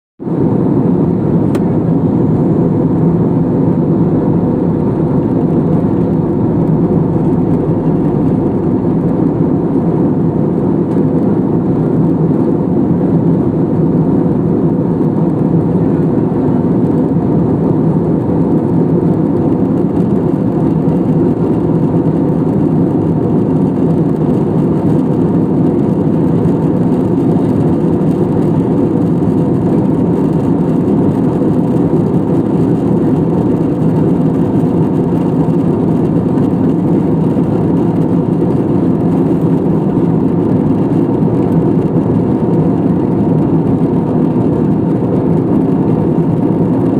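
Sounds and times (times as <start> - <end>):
airliner cabin engine drone: 0.2 - 46.9.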